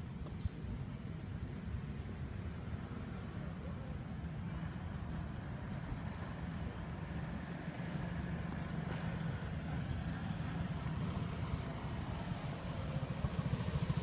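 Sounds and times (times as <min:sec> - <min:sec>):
vehicle engine running: 0:01.2 - 0:14.0.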